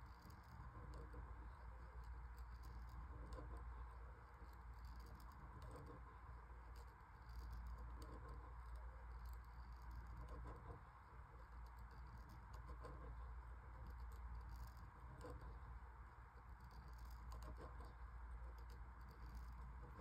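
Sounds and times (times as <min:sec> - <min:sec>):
pen scratching on paper: 0:00.0 - 0:20.0
steady low hum: 0:00.0 - 0:20.0.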